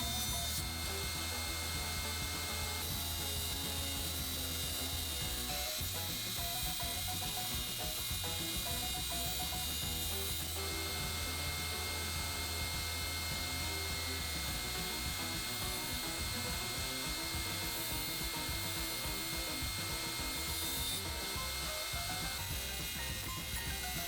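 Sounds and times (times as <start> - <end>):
bandsaw cutting wood: 0.0 - 24.0.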